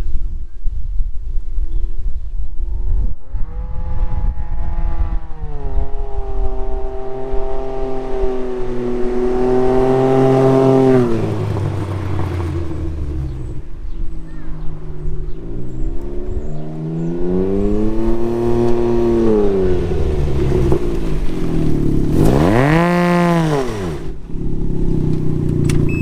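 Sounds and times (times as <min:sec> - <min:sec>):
three-wheeler engine driving past: 0:02.7 - 0:26.0.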